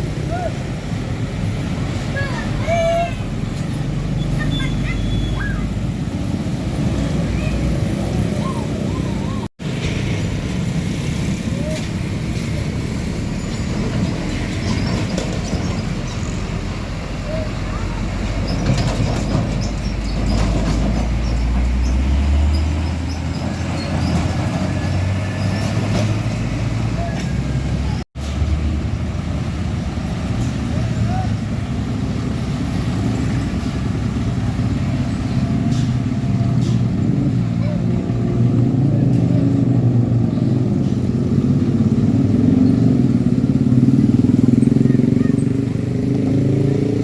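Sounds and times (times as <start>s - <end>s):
diesel truck engine rumble: 0.0s - 47.0s
road traffic: 0.0s - 47.0s.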